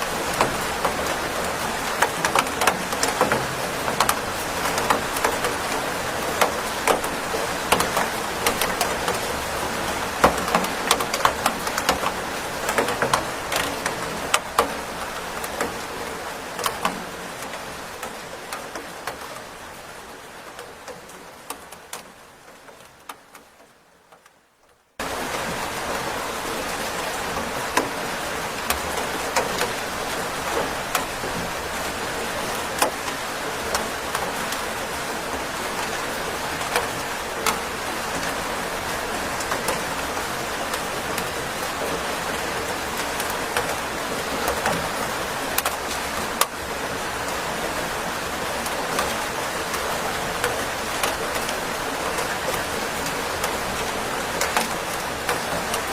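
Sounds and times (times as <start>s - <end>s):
steady rain with sharp drop ticks: 0.0s - 55.9s.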